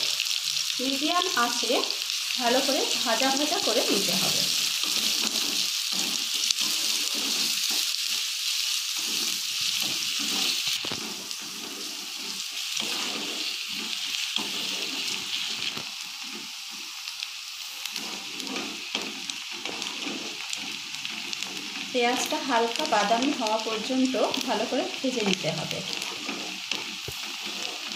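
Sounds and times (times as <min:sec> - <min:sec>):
onions sizzling in hot oil: 0:00.0 - 0:27.9
spatula scraping a pan: 0:02.0 - 0:23.8, 0:25.9 - 0:27.9.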